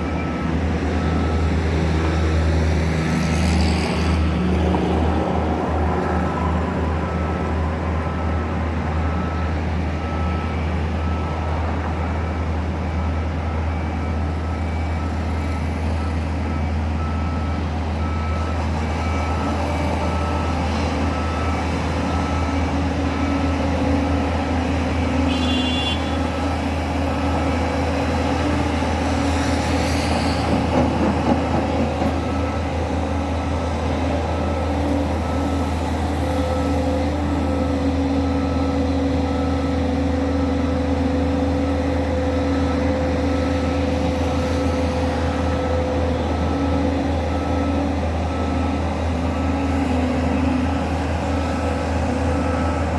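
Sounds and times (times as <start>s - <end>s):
heavy machinery engine hum: 0.0s - 52.9s
reversing alarm beeping: 0.0s - 52.9s.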